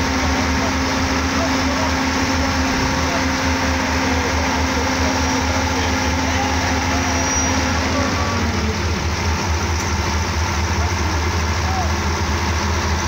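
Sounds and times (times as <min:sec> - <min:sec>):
bus engine drone: 0:00.0 - 0:13.0
road rumble: 0:00.0 - 0:13.0.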